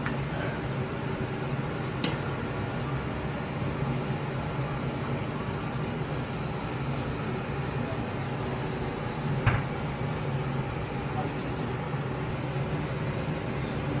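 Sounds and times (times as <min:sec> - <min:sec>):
kitchen equipment humming: 0:00.0 - 0:14.0.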